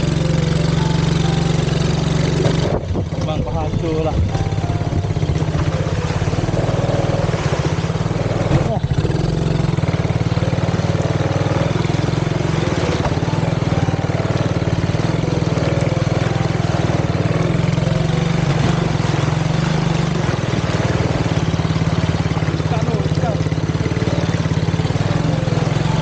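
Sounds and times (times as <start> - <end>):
atv engine running: 0.0 - 26.0
wheels splashing in water: 0.0 - 26.0.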